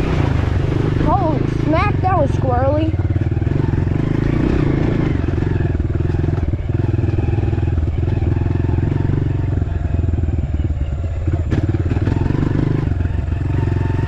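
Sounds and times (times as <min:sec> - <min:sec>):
dirt bike engine: 0:00.0 - 0:14.0.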